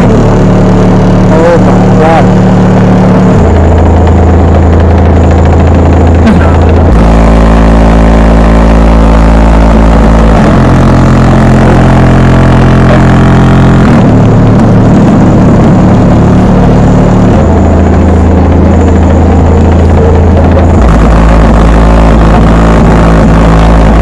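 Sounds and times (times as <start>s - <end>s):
distorted hip-hop bass: 0.0s - 24.0s.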